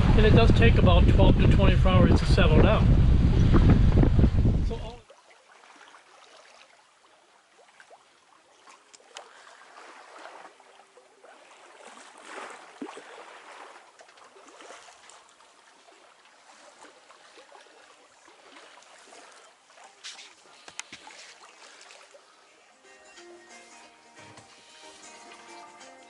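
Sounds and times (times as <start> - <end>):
water swishing along hull: 0.0 - 22.9, 23.6 - 26.0.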